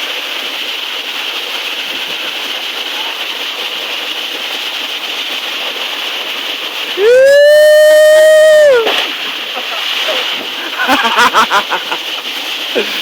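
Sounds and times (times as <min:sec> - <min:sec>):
waterfall rushing: 0:01.0 - 0:13.0.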